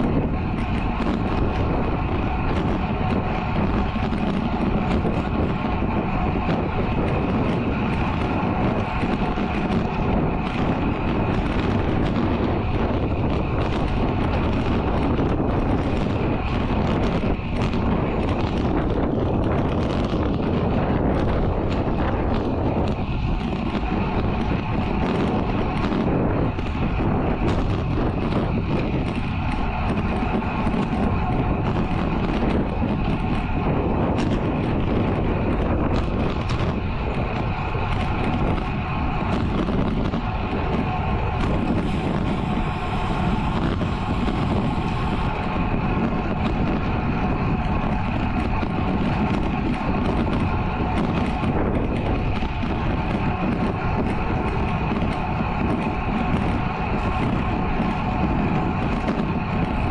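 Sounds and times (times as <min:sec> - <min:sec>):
bicycle tyre noise on asphalt: 0:00.0 - 0:59.9
wind on microphone: 0:00.0 - 0:59.9.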